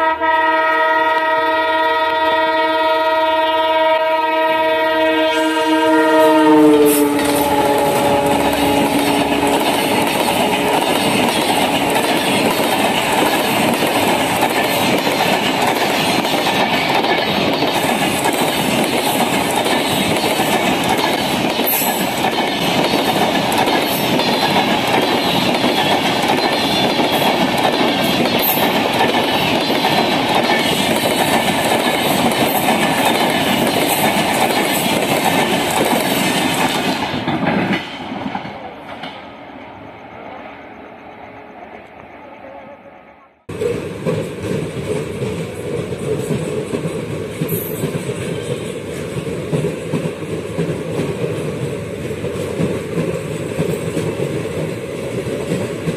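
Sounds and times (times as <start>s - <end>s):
train wheels roaring on rail: 0.0s - 55.9s
clickety-clack over rail joints: 6.8s - 39.4s, 43.5s - 55.9s.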